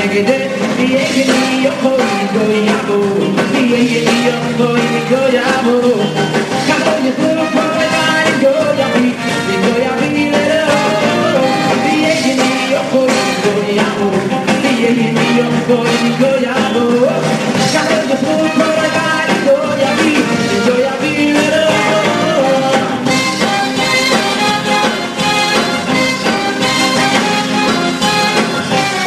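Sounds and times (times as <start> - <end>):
live band playing: 0.0 - 29.0
person singing: 0.0 - 29.0.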